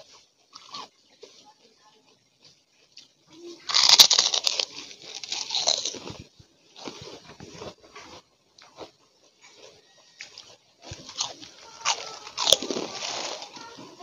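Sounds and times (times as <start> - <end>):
crackers crunching while chewing: 0.0 - 1.4, 2.4 - 14.0.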